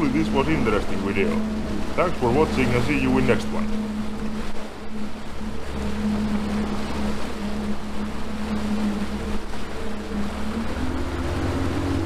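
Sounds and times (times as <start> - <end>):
outboard motor running: 0.0 - 12.0
wake water rushing: 0.0 - 12.0.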